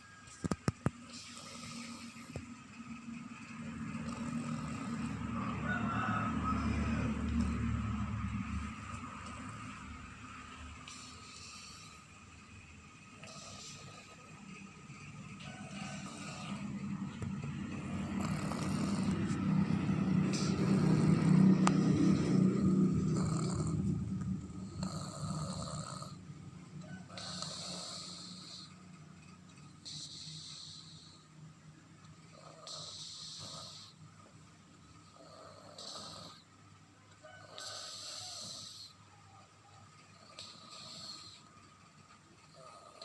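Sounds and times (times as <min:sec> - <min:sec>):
toddler snoring: 0:00.0 - 0:31.5, 0:32.2 - 0:34.4, 0:35.0 - 0:36.7, 0:37.3 - 0:43.0
vehicle engine hum passing by: 0:00.0 - 0:43.0.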